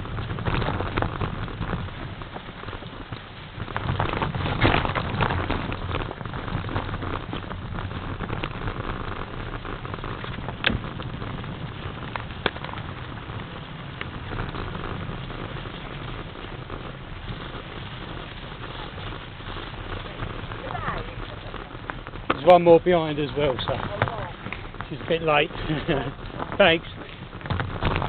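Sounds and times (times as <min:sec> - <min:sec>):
bike rattling: 0:00.0 - 0:28.0
bike tyres crackling on snow: 0:00.0 - 0:28.0.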